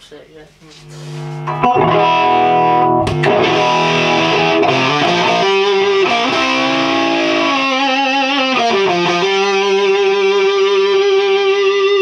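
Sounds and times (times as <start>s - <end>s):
overdriven electric guitar: 0.7s - 12.0s.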